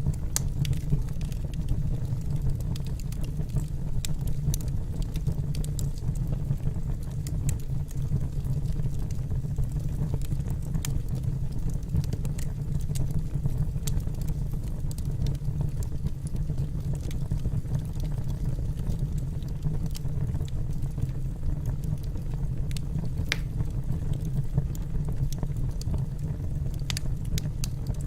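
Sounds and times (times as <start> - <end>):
wood fire burning and crackling: 0.0 - 28.0.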